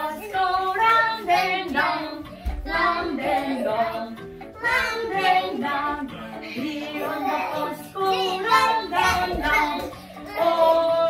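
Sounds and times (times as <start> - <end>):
backing music: 0.0 - 11.0
child singing: 0.0 - 11.0.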